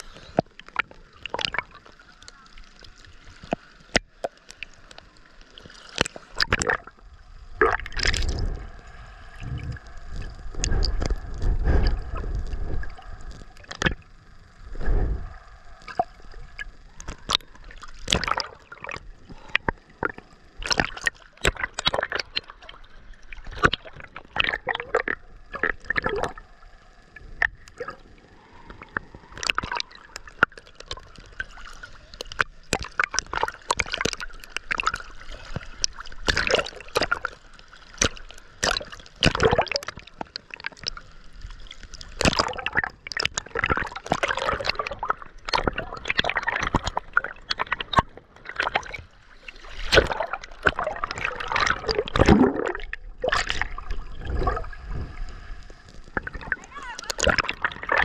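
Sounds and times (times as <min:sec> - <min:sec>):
underwater gurgling: 0:00.0 - 0:58.0
water splashing and sloshing: 0:00.0 - 0:58.0.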